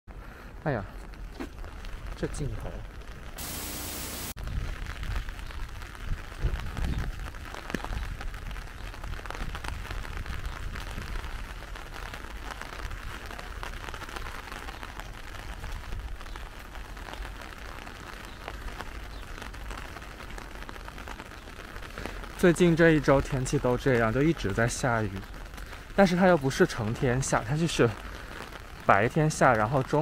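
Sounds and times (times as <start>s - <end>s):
rain on umbrella and pavement: 0.4s - 30.0s.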